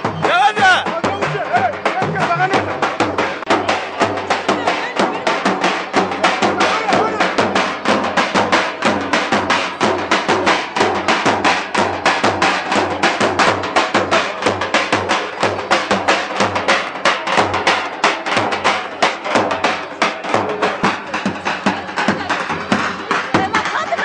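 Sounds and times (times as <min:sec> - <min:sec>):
fast drum rhythm: 0:00.0 - 0:24.0.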